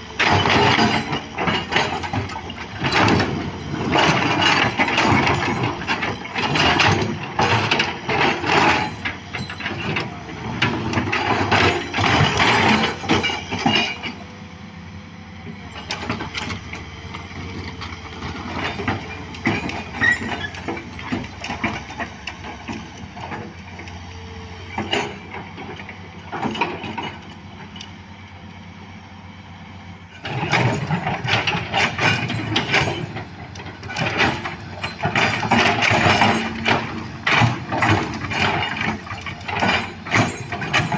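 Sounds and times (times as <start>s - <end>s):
diesel engine running: 0.0s - 40.9s
excavator metallic clanking and scraping: 0.0s - 40.9s.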